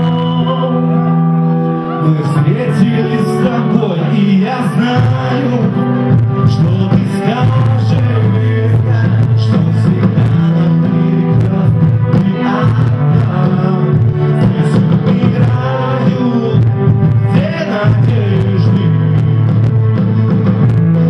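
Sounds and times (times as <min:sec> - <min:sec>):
person singing: 0:00.0 - 0:21.0
steady bass line: 0:00.0 - 0:21.0.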